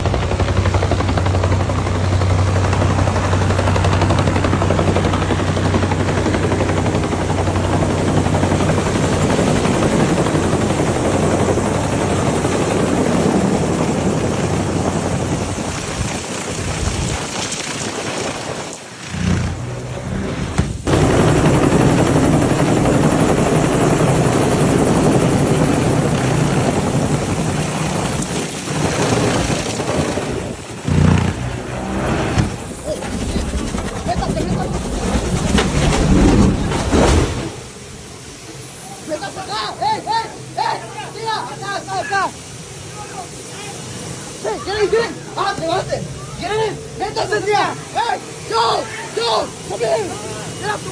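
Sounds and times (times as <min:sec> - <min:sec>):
helicopter engine and rotor: 0:00.0 - 0:36.9, 0:37.6 - 0:50.9.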